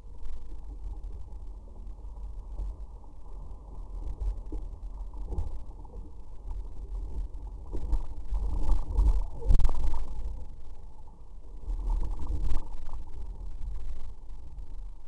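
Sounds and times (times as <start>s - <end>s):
muffled wind rumble: 0.0s - 15.0s.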